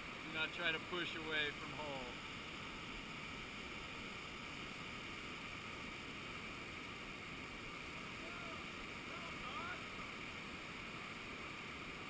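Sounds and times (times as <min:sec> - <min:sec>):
whitewater river rushing: 0:00.0 - 0:12.0.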